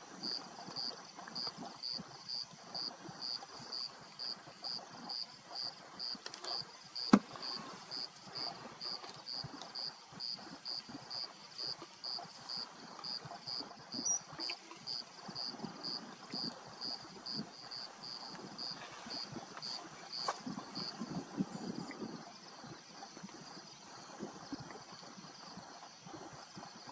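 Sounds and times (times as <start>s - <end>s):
insect chirping: 0.0s - 26.9s.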